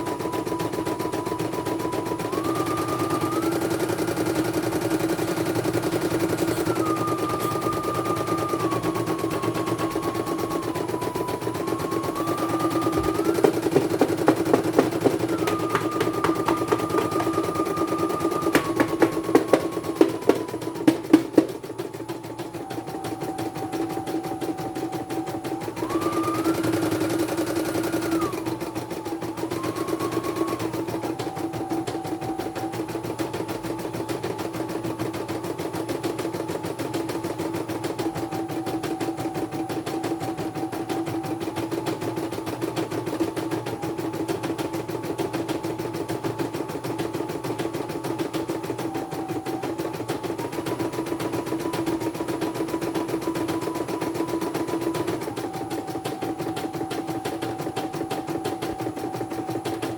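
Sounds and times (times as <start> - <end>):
machine motor whine: 0.0 - 59.9.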